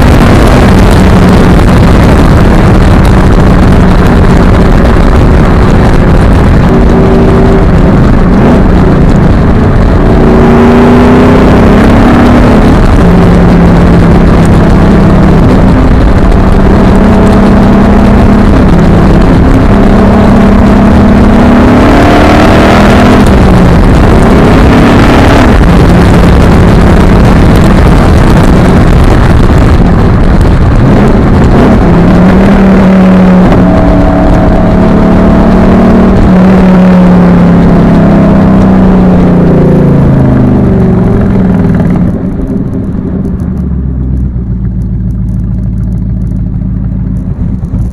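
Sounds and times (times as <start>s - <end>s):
car engine exhaust revving: 0.0s - 47.9s
wind noise: 0.0s - 47.9s.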